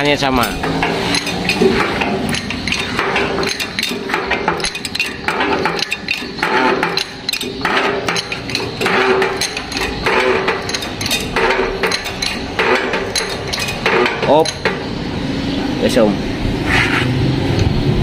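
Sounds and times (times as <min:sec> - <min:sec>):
steel clanking and ringing: 0:00.0 - 0:15.0.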